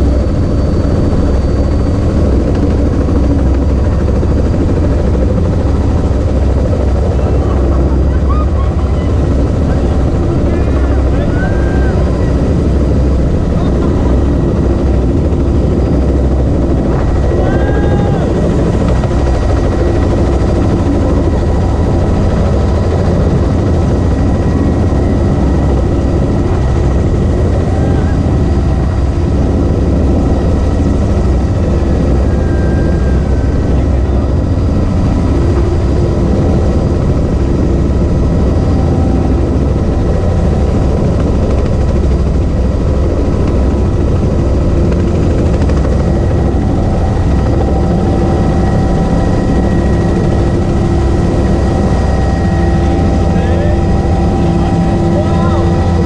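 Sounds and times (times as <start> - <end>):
helicopter rotor and engine rumble: 0.0 - 56.0.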